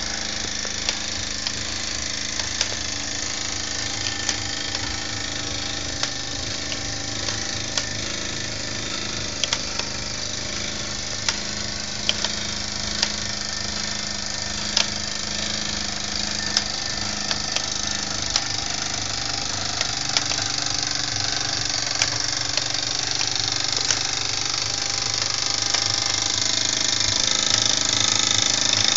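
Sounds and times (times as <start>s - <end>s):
sharp clicks: 0.0s - 28.9s
small steam engine running: 0.0s - 28.9s
whirr of turning shafts and pulleys: 0.0s - 28.9s.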